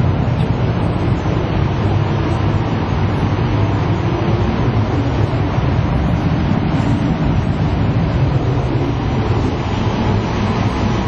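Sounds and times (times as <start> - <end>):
high-speed train rumble and hiss: 0.0 - 11.0.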